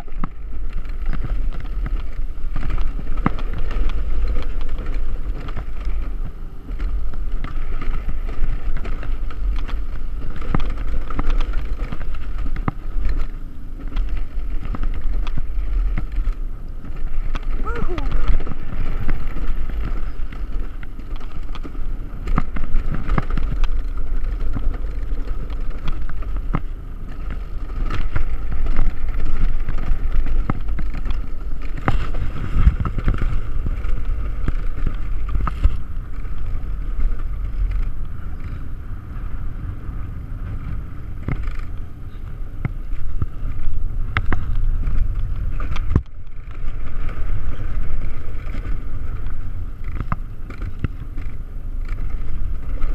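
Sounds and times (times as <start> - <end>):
wheels rumbling on rail: 0.0 - 52.9.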